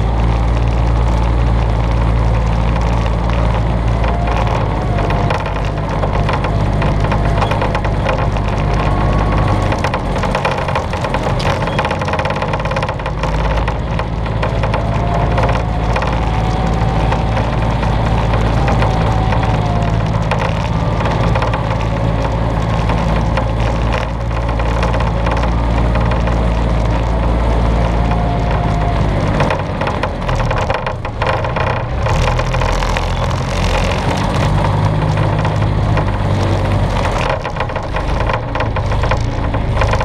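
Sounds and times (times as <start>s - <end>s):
off-road vehicle engine: 0.0s - 40.0s
rattling and crunching over ground: 0.0s - 40.0s.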